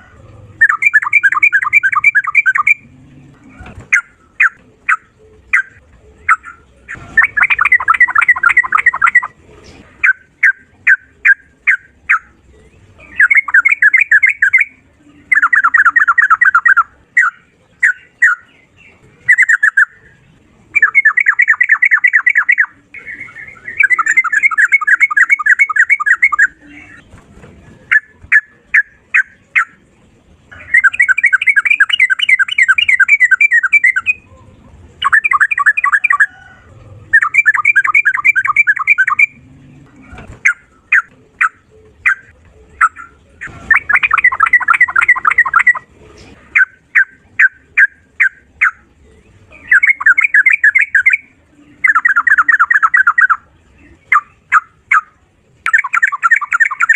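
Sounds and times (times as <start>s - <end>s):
bird singing rattling trills: 0.0s - 9.4s, 10.0s - 27.0s, 30.5s - 34.3s, 35.0s - 45.9s, 46.5s - 56.9s.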